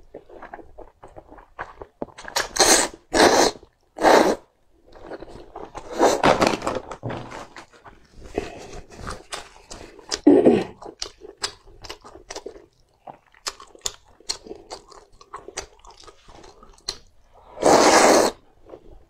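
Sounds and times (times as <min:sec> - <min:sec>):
close chewing with mouth clicks: 0:00.0 - 0:04.0, 0:07.6 - 0:19.0.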